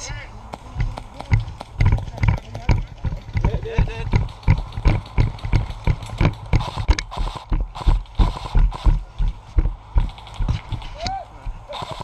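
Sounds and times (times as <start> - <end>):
running footsteps: 0.0 - 12.0.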